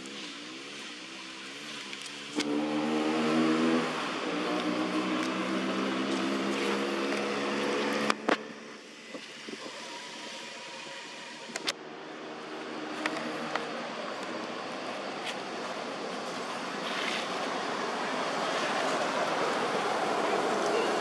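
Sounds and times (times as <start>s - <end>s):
vehicle engine hum: 0.0s - 21.0s.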